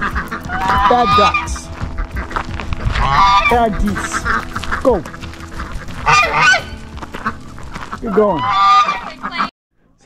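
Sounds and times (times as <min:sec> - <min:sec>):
geese honking: 0:00.0 - 0:09.5.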